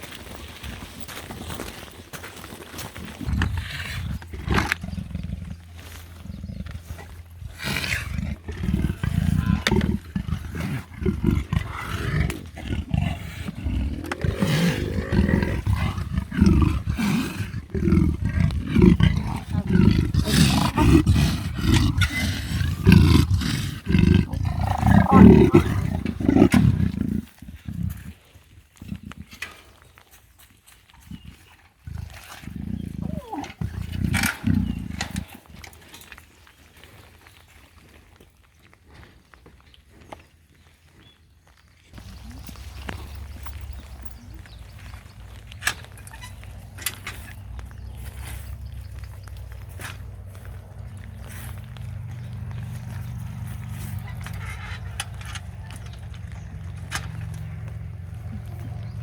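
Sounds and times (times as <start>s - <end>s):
leopard rasping grunts: 3.2s - 30.0s, 31.0s - 36.2s, 41.9s - 59.0s.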